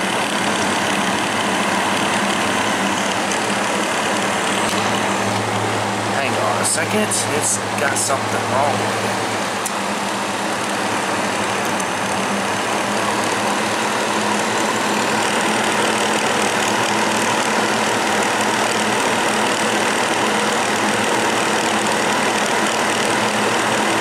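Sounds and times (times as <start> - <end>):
box fan running: 0.0 - 24.0.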